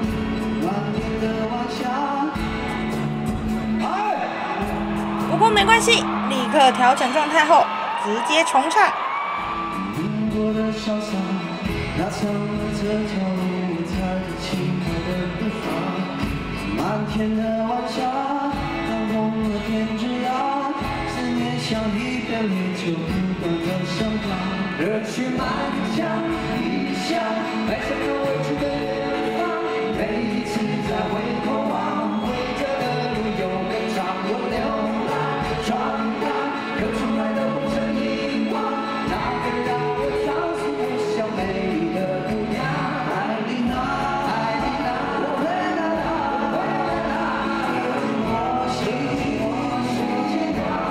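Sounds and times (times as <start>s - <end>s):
men singing: 0.0s - 5.2s, 9.5s - 50.9s
rock band with steady beat: 0.0s - 6.3s, 9.4s - 50.9s.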